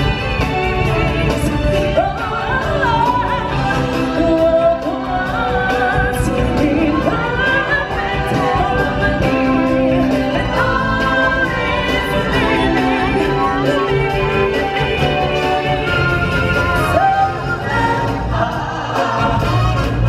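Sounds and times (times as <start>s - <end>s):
woman singing with vibrato: 0.0s - 19.7s
loud backing music: 0.0s - 20.0s.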